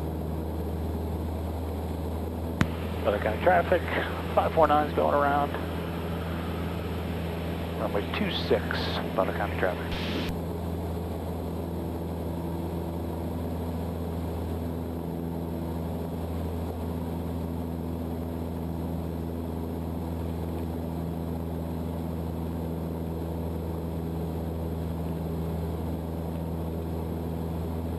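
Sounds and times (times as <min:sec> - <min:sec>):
airplane engine and propeller droning: 0:00.0 - 0:27.9.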